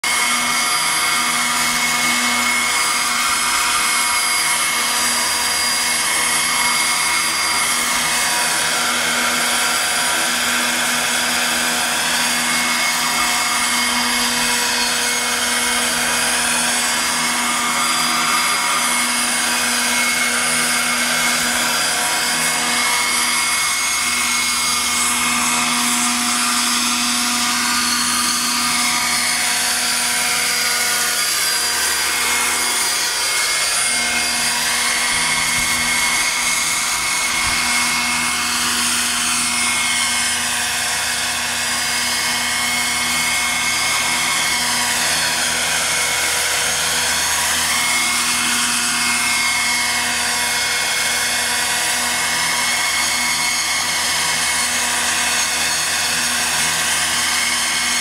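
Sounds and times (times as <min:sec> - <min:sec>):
model helicopter motor whine: 0:00.0 - 0:58.0
rotor whir: 0:00.1 - 0:58.0.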